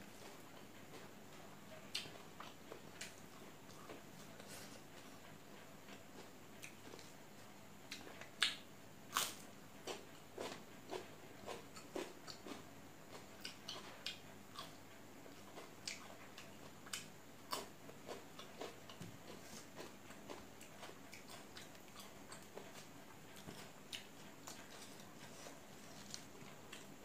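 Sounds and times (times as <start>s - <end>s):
chewing and crunching: 0.0s - 27.0s.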